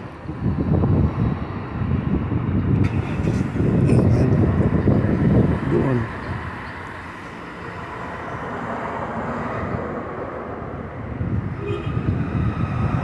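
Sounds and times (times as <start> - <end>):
rumble of passing cars: 0.0 - 13.0.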